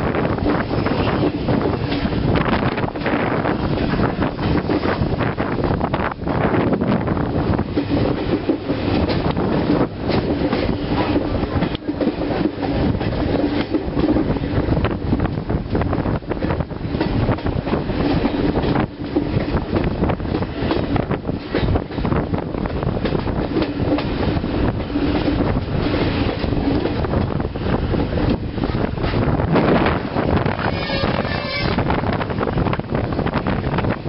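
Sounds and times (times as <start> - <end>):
low train tone: 0.0 - 34.0
wind buffeting microphone: 0.0 - 34.0
train wheels clicking over rail joints: 0.2 - 34.0.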